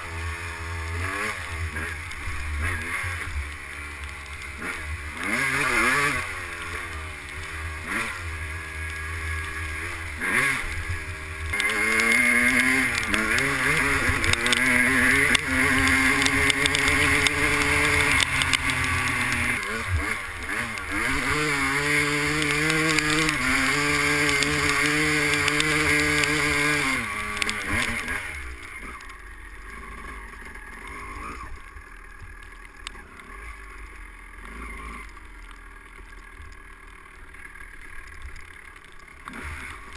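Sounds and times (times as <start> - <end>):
two-stroke motocross bike engine: 0.0 - 39.9.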